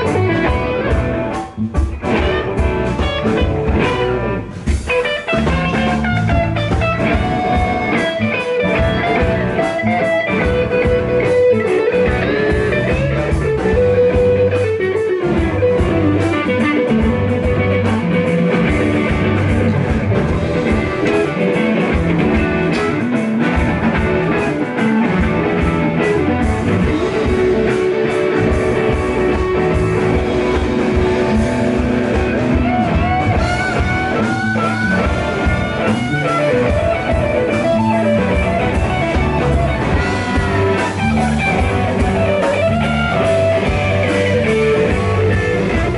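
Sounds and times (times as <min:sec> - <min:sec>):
bass guitar: 0:00.0 - 0:45.9
drum kit: 0:00.0 - 0:45.9
electric guitar lead notes: 0:00.0 - 0:45.9.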